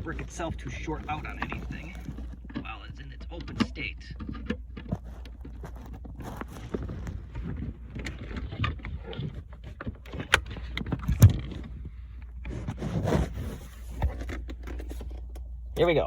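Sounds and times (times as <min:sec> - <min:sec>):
handling clicks and rustles: 0:00.0 - 0:16.0.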